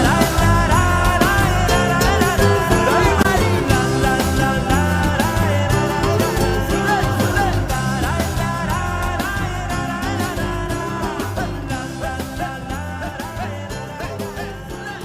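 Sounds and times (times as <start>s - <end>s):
instrumental song with bass beat: 0.0s - 15.0s.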